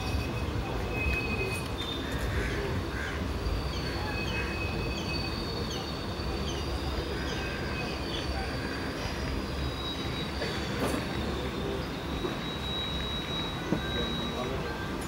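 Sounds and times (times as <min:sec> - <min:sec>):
wheel squeal: 0:00.0 - 0:02.3, 0:03.4 - 0:15.0
train rumbling: 0:00.0 - 0:15.0.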